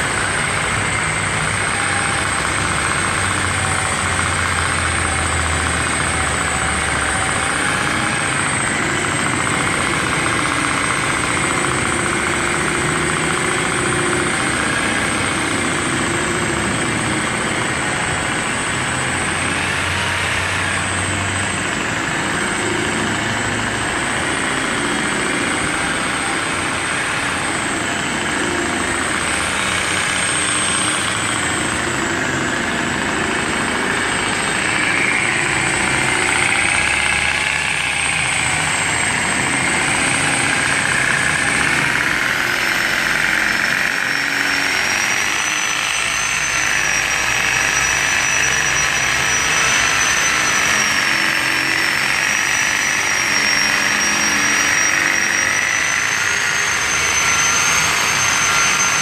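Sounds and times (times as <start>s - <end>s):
high thin whine: 0.0s - 59.0s
machine polisher motor whine: 0.0s - 59.0s.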